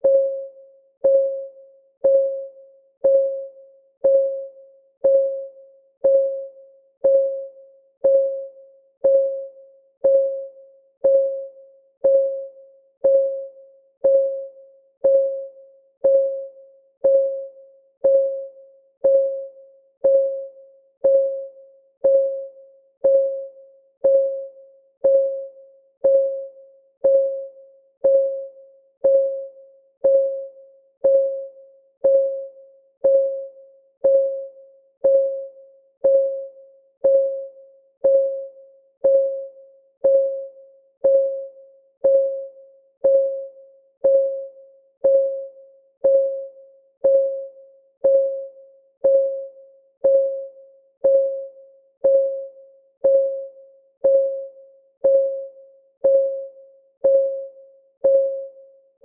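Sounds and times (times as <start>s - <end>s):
timer clock ticking: 1.0s - 58.6s.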